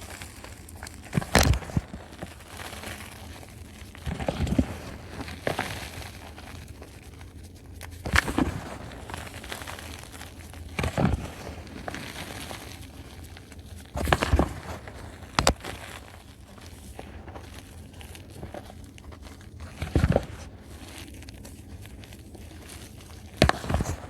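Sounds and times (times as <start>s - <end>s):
chalk crunching and crumbling: 0.0s - 24.0s.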